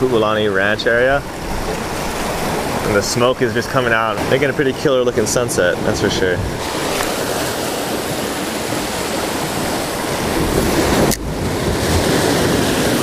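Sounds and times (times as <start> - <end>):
surf washing over rocks: 0.0 - 13.0
wind buffeting microphone: 0.0 - 13.0.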